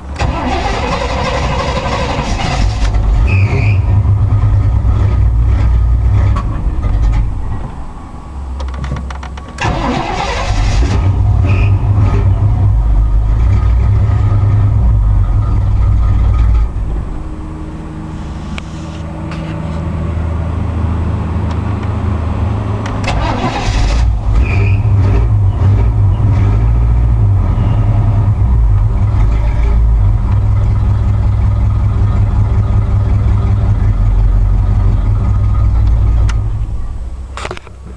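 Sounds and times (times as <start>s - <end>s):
misfiring car engine: 0.0s - 37.9s.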